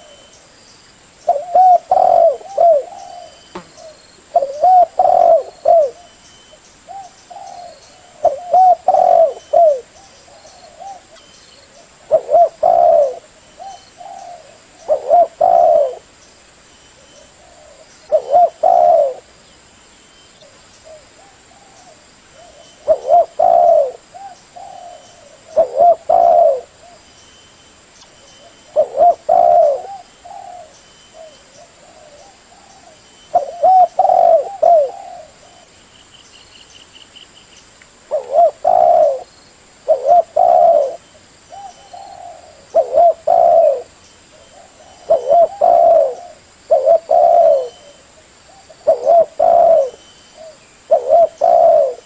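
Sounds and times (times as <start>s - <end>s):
dove cooing: 1.3s - 6.2s, 6.9s - 16.1s, 17.0s - 19.3s, 20.4s - 27.0s, 28.4s - 35.7s, 38.1s - 52.0s.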